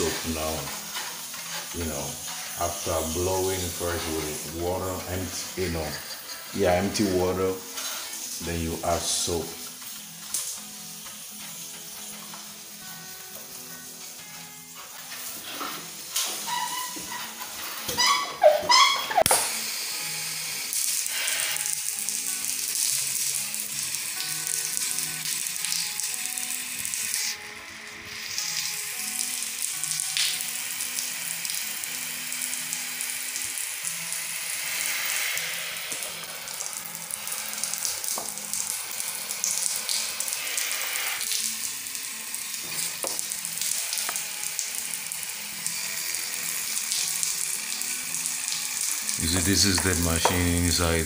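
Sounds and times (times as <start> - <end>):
pressure washer spray hissing: 0.0 - 9.4, 18.7 - 27.4, 28.1 - 50.9.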